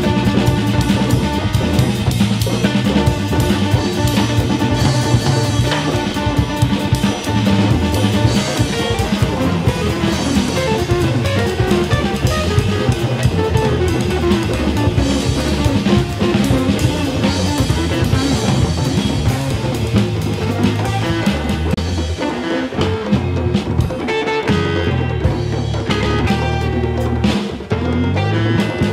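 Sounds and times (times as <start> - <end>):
bass line: 0.0 - 28.9
drum kit: 0.0 - 28.9
guitar playing: 0.0 - 28.9.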